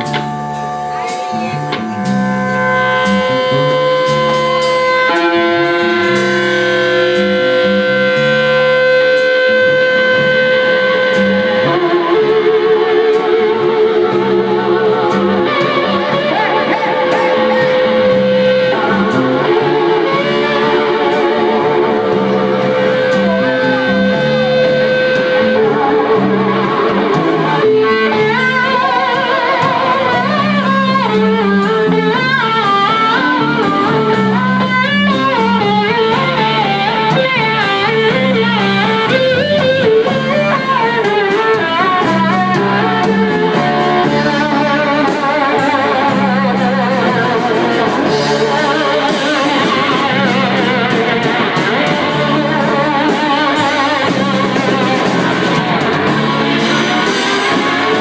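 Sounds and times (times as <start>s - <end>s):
amplified blues band playing: 0.0s - 58.0s
lead guitar line with vibrato: 0.0s - 58.0s
repeating bass riff: 0.0s - 58.0s.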